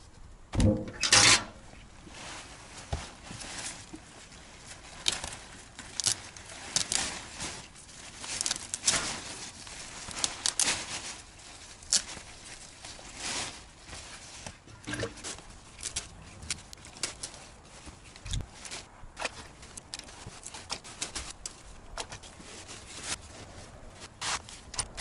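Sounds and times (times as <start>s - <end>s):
leaves and stalks rustling: 0.7s - 25.0s.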